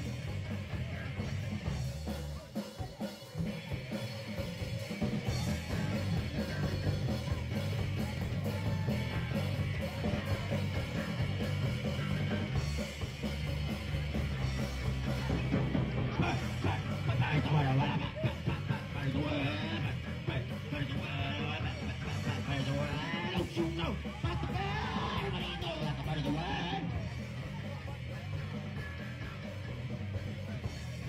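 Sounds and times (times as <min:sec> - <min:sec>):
drum kit: 0:00.0 - 0:31.0
punk rock band playing: 0:00.0 - 0:31.0.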